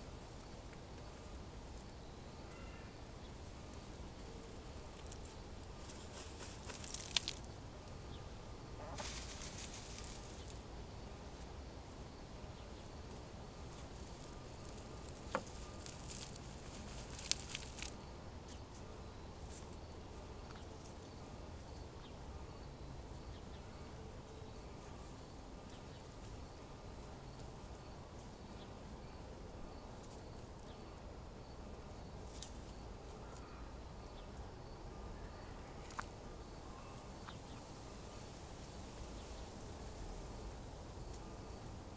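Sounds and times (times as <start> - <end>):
hens rustling in dry soil: 0.0 - 33.7, 35.5 - 41.9.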